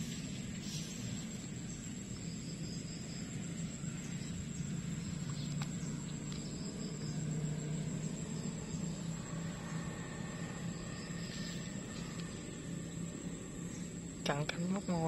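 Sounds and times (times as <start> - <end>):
faint chirping: 0.0 - 15.0
high insect trill: 0.0 - 15.0
low steady hum: 0.0 - 15.0.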